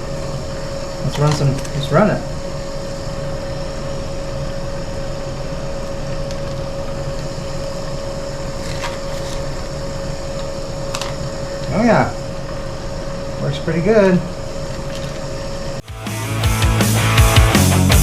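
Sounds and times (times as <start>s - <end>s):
electric water pump humming: 0.0s - 18.0s.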